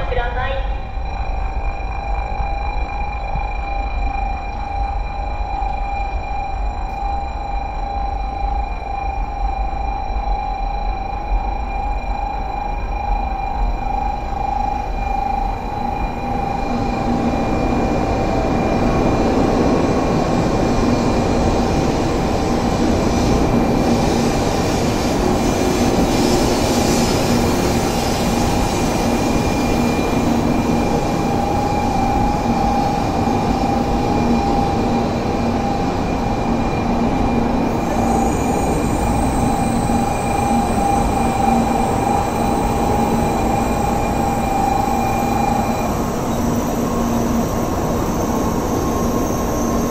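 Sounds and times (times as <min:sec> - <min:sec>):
steady whining tones: 0:00.0 - 0:49.9
train rumbling: 0:00.0 - 0:49.9.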